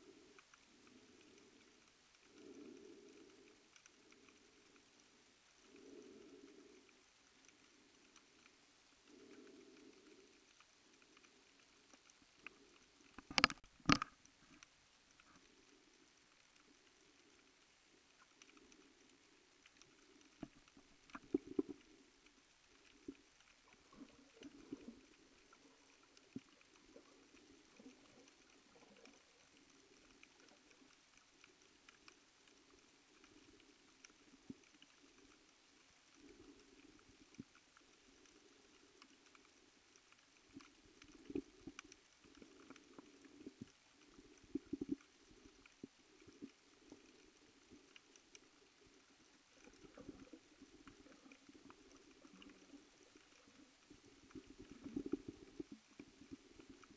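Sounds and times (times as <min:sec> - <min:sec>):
underwater clicks and crackles: 0:00.0 - 0:56.9.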